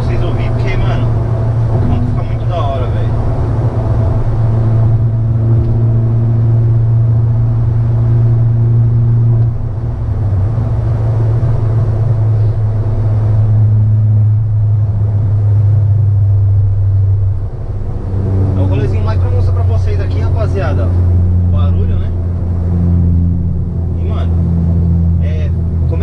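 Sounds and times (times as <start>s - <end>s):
low exhaust drone: 0.0s - 26.0s.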